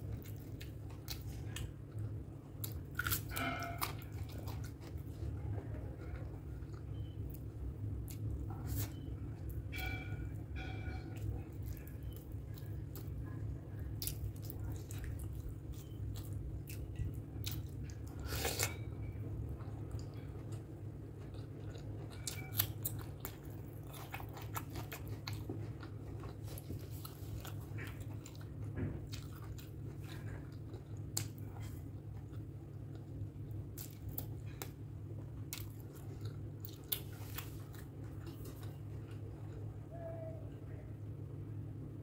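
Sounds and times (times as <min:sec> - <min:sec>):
chewing with wet clicks: 0:00.0 - 0:39.9.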